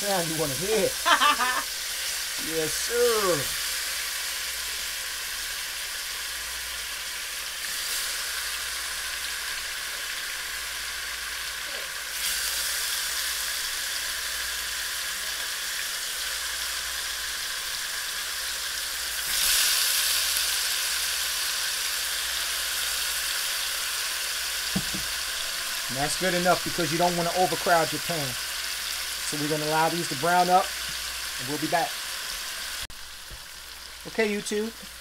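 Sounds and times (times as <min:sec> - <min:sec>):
meat sizzling in oil: 0:00.0 - 0:35.0.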